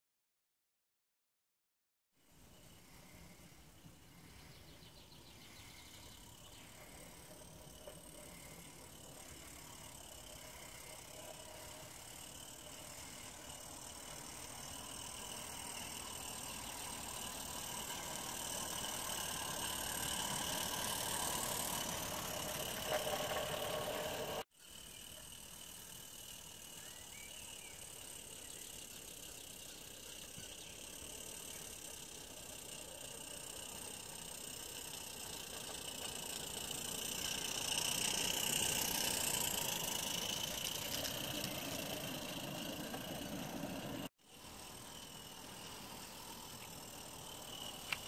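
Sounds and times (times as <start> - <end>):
small wheels rattling on track: 5.2 - 48.0
steam locomotive chuffing: 5.6 - 48.0.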